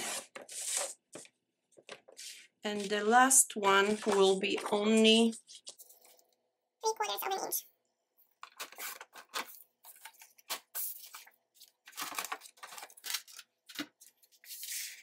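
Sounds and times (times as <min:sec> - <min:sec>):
paper rustling: 0:00.0 - 0:06.2, 0:08.4 - 0:15.0.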